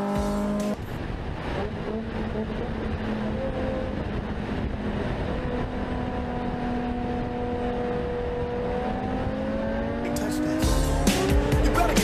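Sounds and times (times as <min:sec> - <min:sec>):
road and wind noise: 0:00.0 - 0:12.0
vehicle engine running: 0:00.0 - 0:12.0.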